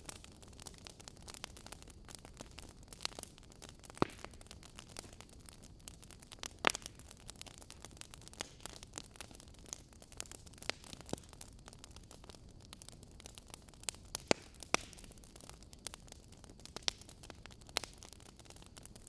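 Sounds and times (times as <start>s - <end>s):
wood logs crackling in fireplace: 0.0s - 19.0s.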